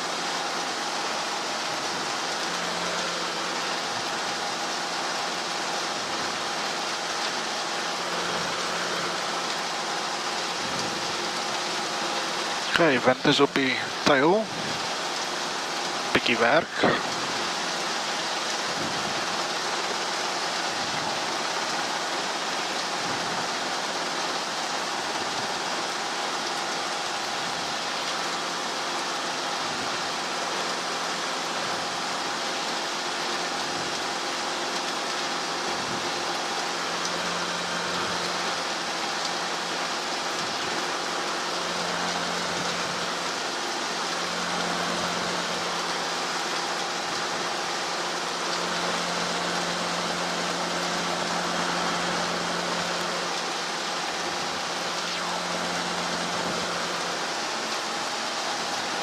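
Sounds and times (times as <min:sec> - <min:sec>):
faint constant tones: 0:00.0 - 0:59.0
helicopter engine and rotor drone: 0:00.0 - 0:59.0.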